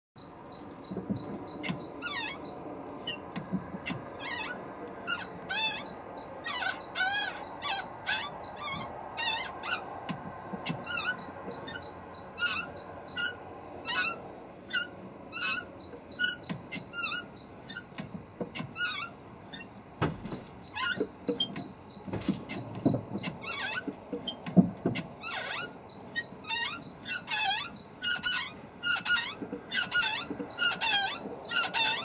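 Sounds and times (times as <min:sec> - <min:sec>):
clutch squeaking: 0:00.5 - 0:32.0.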